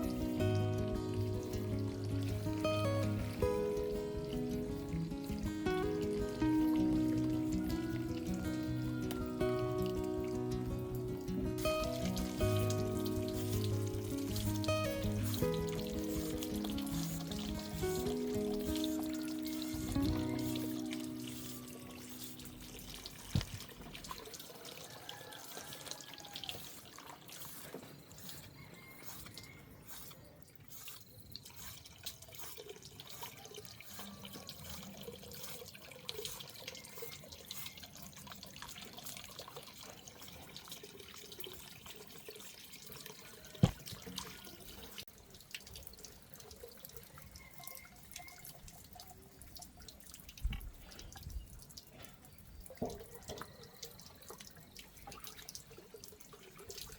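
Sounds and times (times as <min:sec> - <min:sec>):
water running and dripping: 0:00.0 - 0:56.9.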